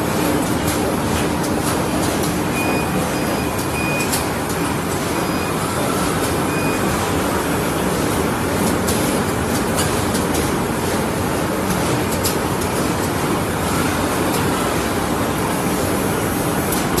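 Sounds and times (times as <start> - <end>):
bag making machine clattering: 0.0 - 17.0.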